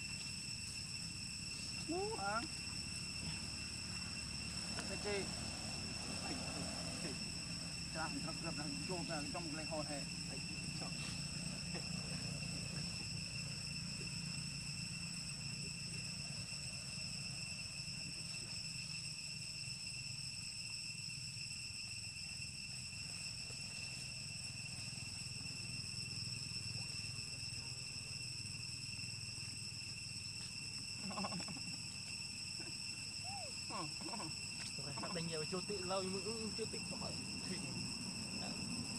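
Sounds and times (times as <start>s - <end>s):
insects shrilling: 0.0s - 38.9s.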